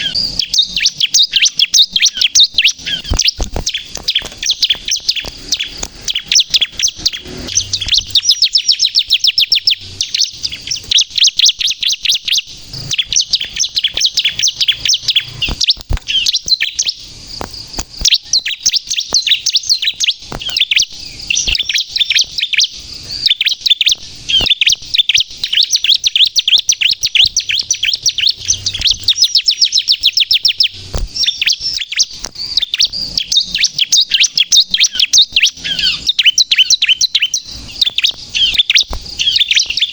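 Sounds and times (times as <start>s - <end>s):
bird singing rapid sharp chirps: 0.0s - 39.9s.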